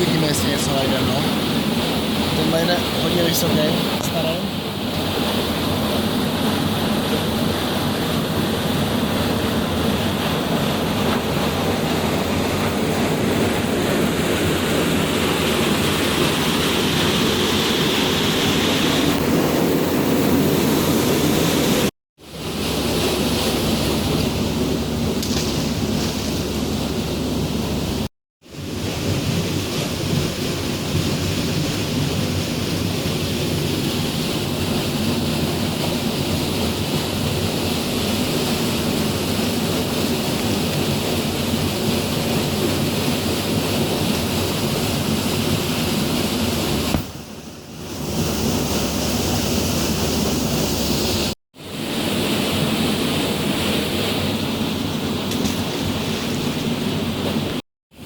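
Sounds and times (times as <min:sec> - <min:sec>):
rushing water roar: 0:00.0 - 0:58.0.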